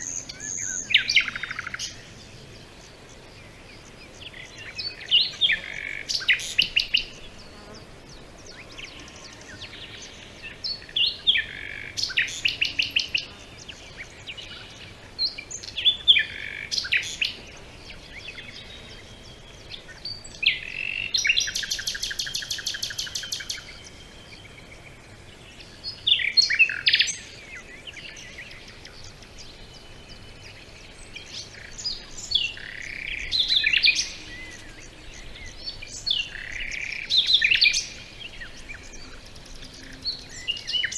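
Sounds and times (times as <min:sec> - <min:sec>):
songbird singing with trills: 0:00.0 - 0:40.9.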